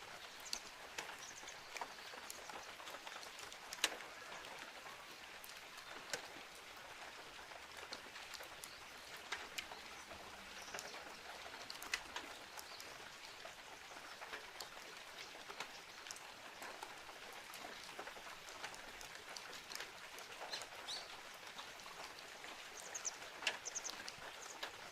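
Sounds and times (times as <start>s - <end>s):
raindrops ticking: 0.0s - 24.9s
steady rain falling: 0.0s - 24.9s.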